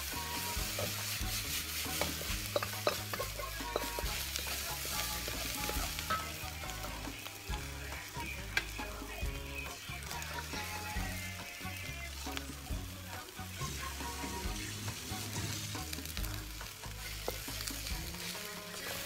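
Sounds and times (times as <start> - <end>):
noodles sizzling in a wok: 0.0 - 19.0
spatula scraping a wok: 0.0 - 19.0.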